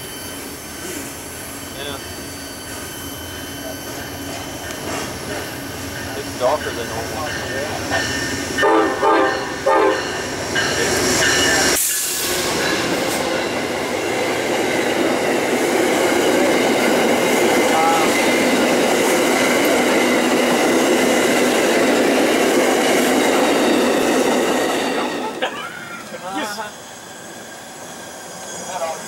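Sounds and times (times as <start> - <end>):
diesel locomotive passing: 0.0 - 29.0
steel wheels rushing on rails: 0.0 - 29.0.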